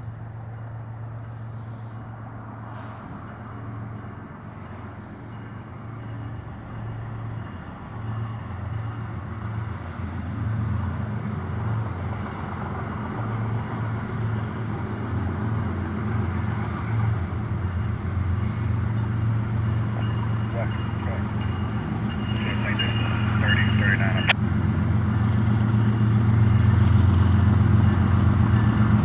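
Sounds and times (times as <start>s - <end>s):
diesel locomotive engine rumble: 0.0s - 29.0s.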